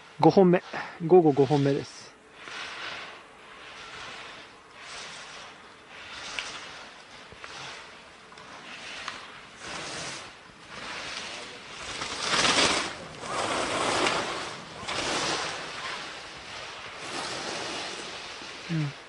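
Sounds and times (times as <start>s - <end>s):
skis scraping on hard snow: 0.0s - 19.0s.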